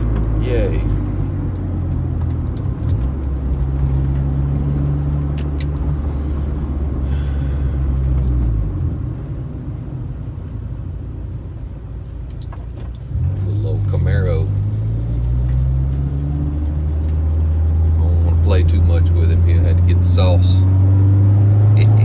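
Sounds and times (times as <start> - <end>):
car engine drone: 0.0 - 22.0
road noise: 0.0 - 22.0.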